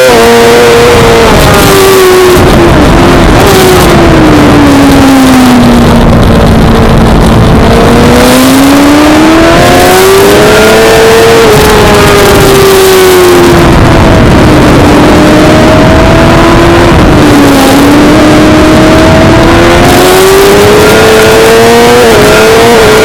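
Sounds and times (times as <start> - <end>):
loud rushing wind noise: 0.0 - 23.0
motorcycle engine revving: 0.0 - 23.0.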